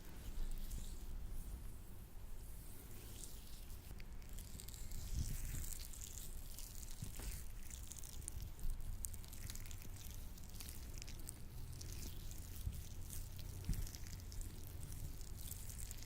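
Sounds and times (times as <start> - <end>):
gloved hands squishing lotion: 0.0 - 16.0.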